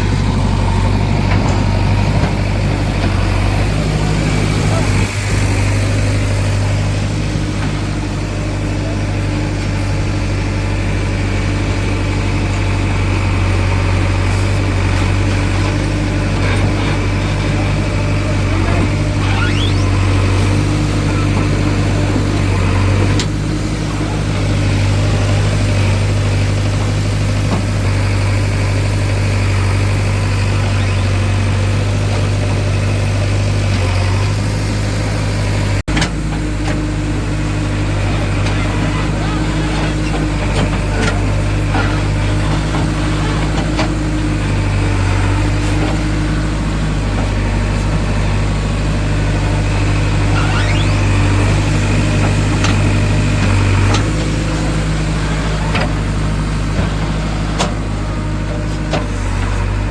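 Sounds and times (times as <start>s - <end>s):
diesel engine running steadily: 0.0s - 59.9s.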